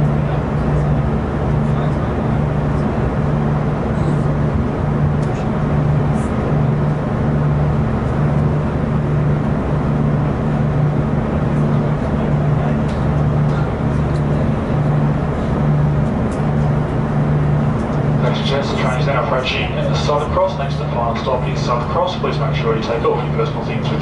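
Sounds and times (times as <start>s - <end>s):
rail rumble: 0.0s - 24.0s
train engine drone: 0.0s - 24.0s.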